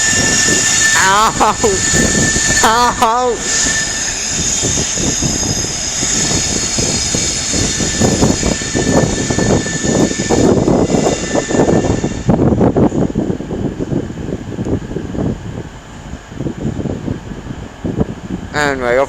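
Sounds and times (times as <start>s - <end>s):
diesel locomotive engine: 0.0s - 19.0s
high whine: 0.0s - 19.0s.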